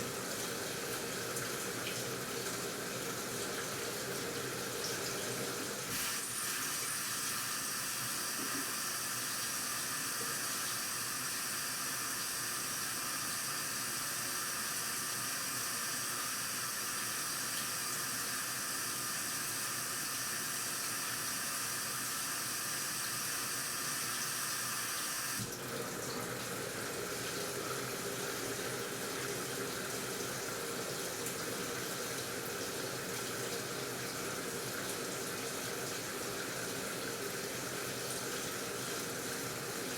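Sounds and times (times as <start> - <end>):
water pouring into washing machine: 0.0 - 39.9.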